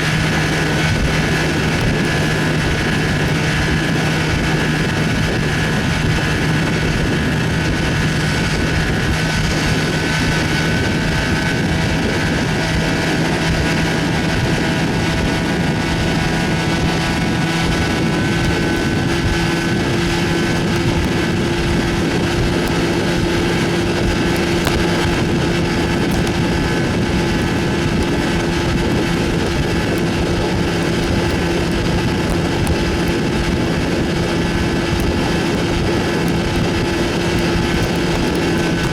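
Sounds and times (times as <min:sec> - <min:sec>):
outboard motor running: 0:00.0 - 0:38.9
wind on microphone: 0:00.0 - 0:38.9.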